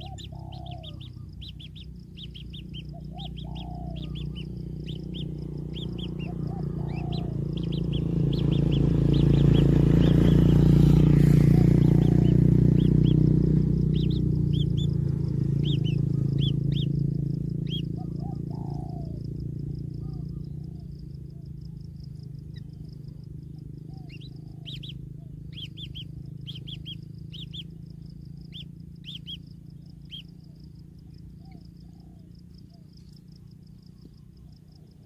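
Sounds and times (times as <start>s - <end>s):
low rumble: 0.0s - 31.5s
birds chirping: 0.0s - 35.0s.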